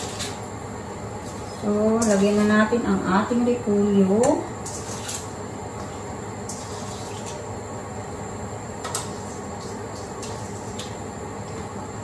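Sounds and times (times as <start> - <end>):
pan simmering: 0.0 - 12.0
range hood fan humming: 0.0 - 12.0.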